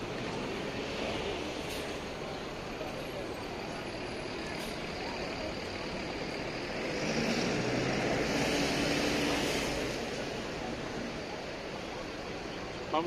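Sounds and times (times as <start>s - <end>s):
city street noise: 0.0s - 13.0s.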